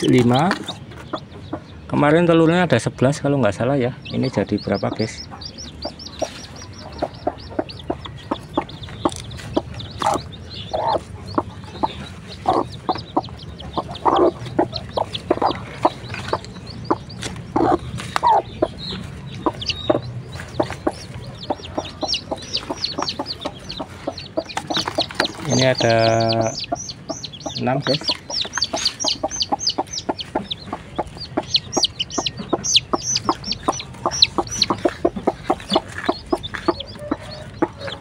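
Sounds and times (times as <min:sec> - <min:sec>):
chicks cheeping: 0:00.0 - 0:38.0
hen clucking: 0:00.0 - 0:38.0.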